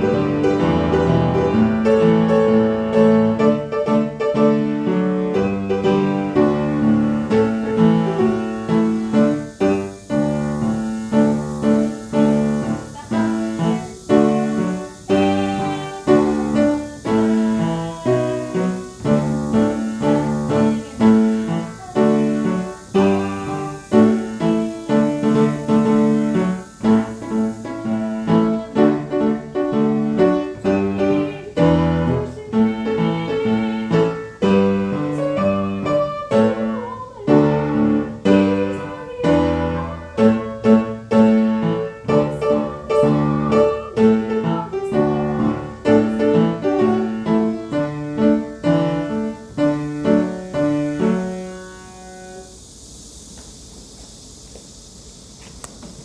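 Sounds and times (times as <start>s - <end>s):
piano piece: 0.0s - 52.7s.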